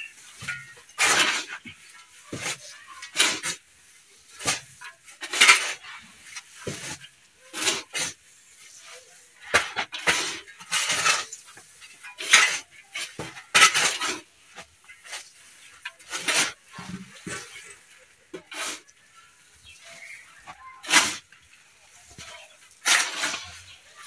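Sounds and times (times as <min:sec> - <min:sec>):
shovel scraping through gravelly soil: 0:00.0 - 0:17.8, 0:18.4 - 0:24.0.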